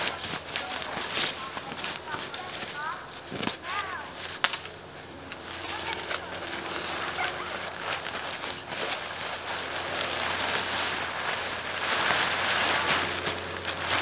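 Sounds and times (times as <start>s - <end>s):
nylon tent fabric rustling: 0.0s - 14.0s.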